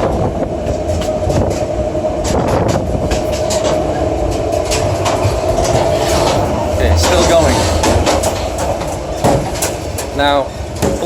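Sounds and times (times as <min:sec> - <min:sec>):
train carriage rumbling: 0:00.0 - 0:11.0
train clacks and rattles: 0:00.0 - 0:11.0.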